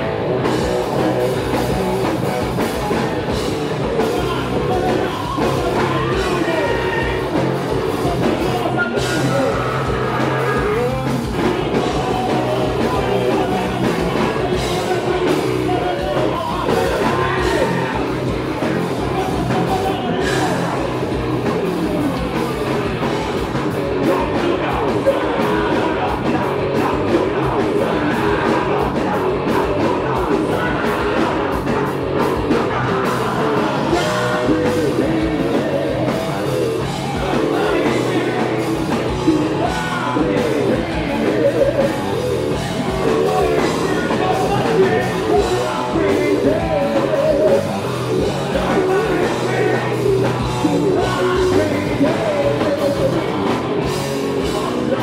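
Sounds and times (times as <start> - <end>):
heavy rock band playing: 0.0 - 55.0
person singing and shouting: 0.8 - 55.0.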